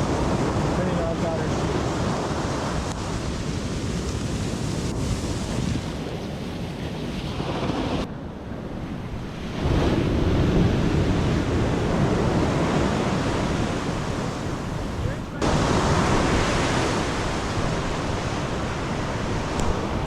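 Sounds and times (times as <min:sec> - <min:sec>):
ocean surf washing on beach: 0:00.0 - 0:20.0
wind on microphone: 0:00.0 - 0:20.0.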